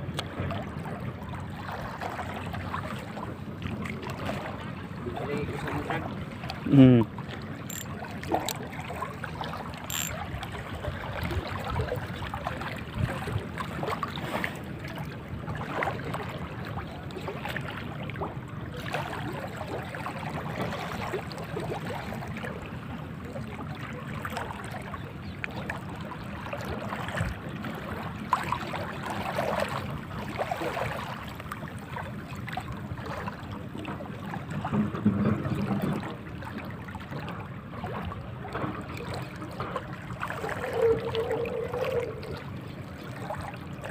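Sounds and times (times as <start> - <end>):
sea water lapping and splashing: 0.0 - 43.9.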